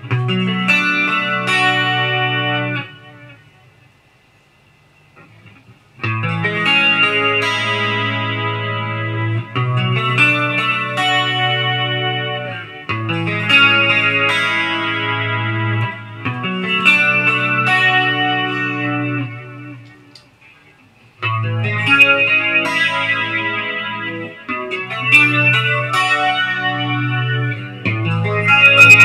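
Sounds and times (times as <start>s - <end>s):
electric guitar with delay: 0.0s - 3.5s, 5.2s - 29.0s.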